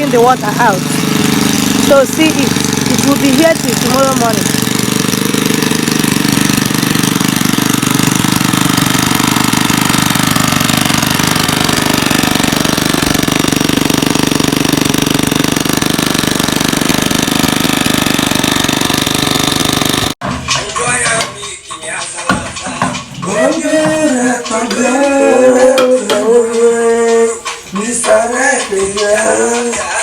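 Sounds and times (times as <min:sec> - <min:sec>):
engine-driven water pump running: 0:00.0 - 0:30.0.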